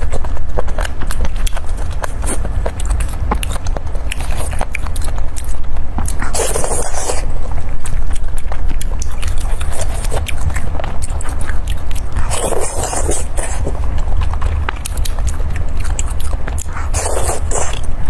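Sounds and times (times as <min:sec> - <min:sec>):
chewing and wet mouth sounds: 0:00.0 - 0:18.0.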